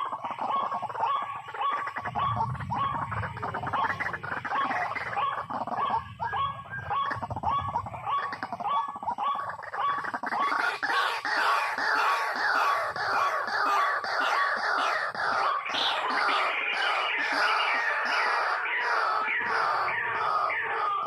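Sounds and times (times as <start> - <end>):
bird croaking calls: 0.0 - 21.0.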